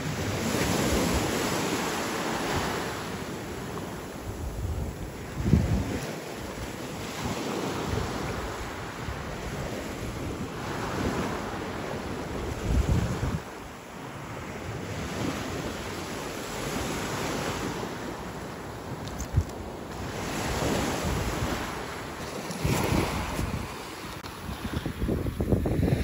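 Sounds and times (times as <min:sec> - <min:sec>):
small waves breaking: 0:00.0 - 0:25.1
wind buffeting microphone: 0:00.0 - 0:26.0.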